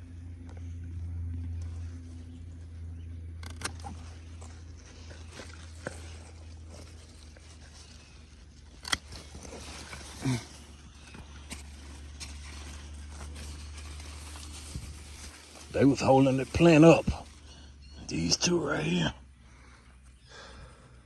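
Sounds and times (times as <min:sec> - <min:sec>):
steady low hum: 0:00.0 - 0:21.0
plant clicks and rustles: 0:01.5 - 0:19.0.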